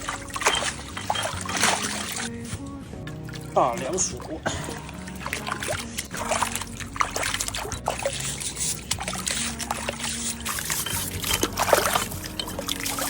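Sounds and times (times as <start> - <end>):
knocks and scrapes in water: 0.0 - 13.0
water trickling: 0.0 - 13.0.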